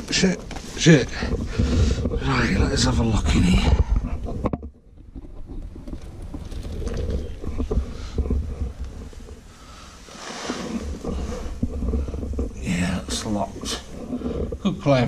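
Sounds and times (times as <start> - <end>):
rustling: 0.0 - 15.0
wind buffeting microphone: 0.0 - 15.0.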